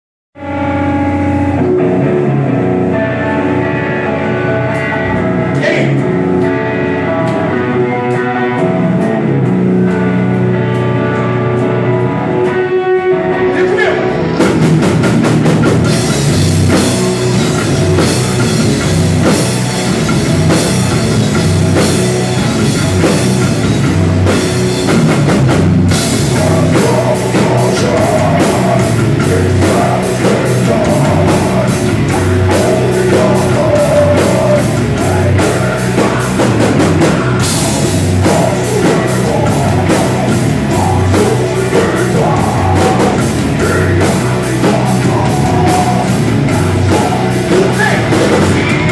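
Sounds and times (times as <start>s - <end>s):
drum kit: 0.4s - 48.9s
heavy rock music: 0.4s - 48.9s.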